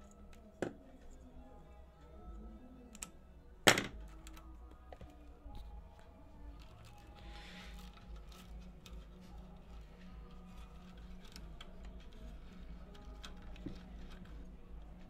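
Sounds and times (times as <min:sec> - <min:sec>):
wires and plastic connectors clicking: 0:02.8 - 0:15.0.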